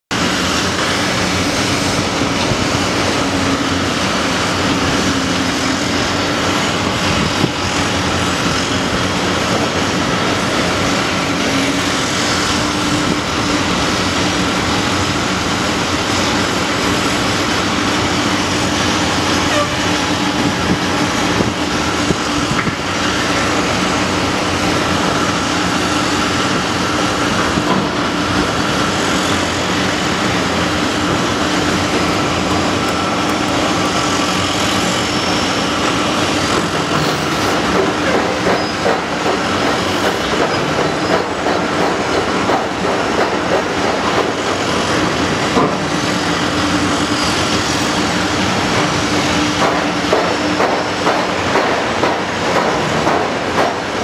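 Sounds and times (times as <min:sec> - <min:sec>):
excavator engine and hydraulic drone: 0:00.1 - 0:54.0.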